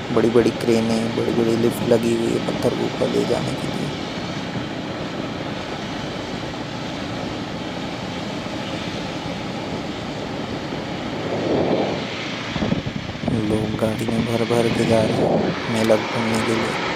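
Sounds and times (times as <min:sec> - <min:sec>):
motorcycle road noise: 0:00.0 - 0:16.9
wind rush: 0:00.0 - 0:16.9.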